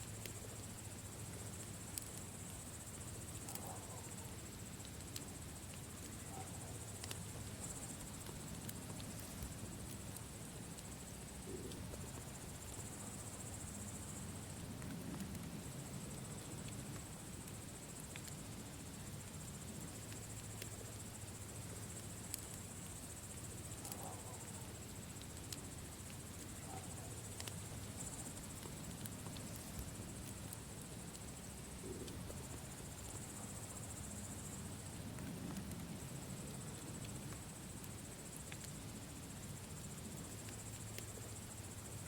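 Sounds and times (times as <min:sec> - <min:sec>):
crickets chirping: 0:00.0 - 0:42.0
campfire crackling and popping: 0:00.1 - 0:42.0
low flame rumble: 0:04.4 - 0:23.8, 0:24.7 - 0:41.8.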